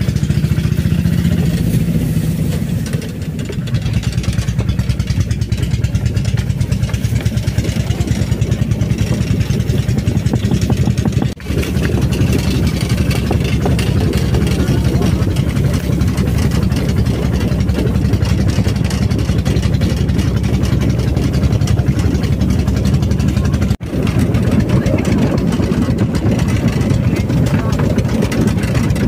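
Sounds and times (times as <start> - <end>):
small motorcycle engine pulsing: 0.0 - 29.0.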